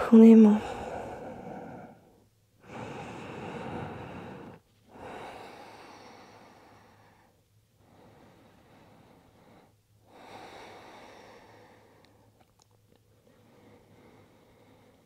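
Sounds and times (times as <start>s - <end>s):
woman breathing deeply: 0.6s - 12.4s, 13.1s - 15.0s.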